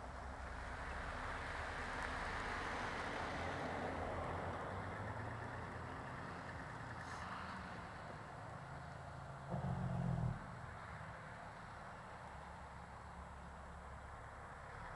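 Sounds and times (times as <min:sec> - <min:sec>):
road and wind noise: 0:00.0 - 0:14.9
truck engine drone: 0:00.2 - 0:14.9.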